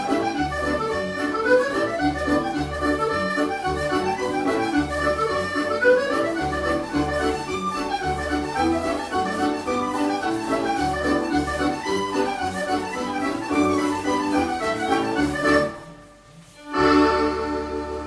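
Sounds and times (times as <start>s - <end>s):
dance band with accordion lead: 0.0s - 18.0s.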